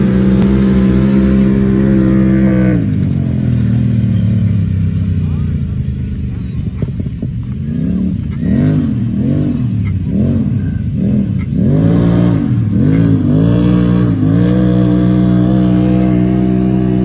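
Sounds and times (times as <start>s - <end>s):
utility vehicle engine revving: 0.0s - 17.0s.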